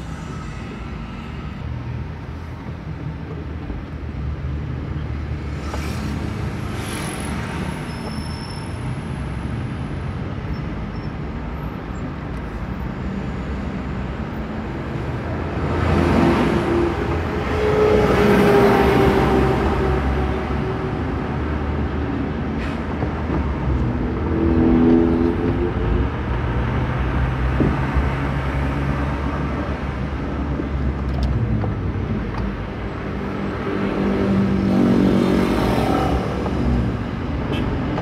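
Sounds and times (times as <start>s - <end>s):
car engine and road noise: 0.0s - 38.0s
passing vehicles: 0.0s - 38.0s.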